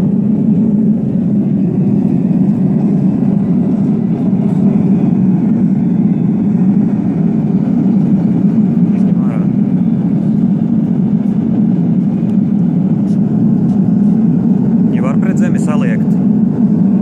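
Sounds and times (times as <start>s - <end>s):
forge blower and flame rushing: 0.0s - 17.0s.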